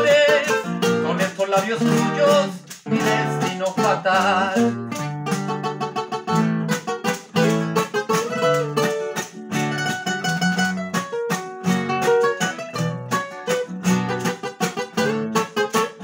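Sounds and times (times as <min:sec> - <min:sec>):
acoustic guitar chords: 0:00.0 - 0:16.0
requinto picking melody: 0:00.0 - 0:16.0.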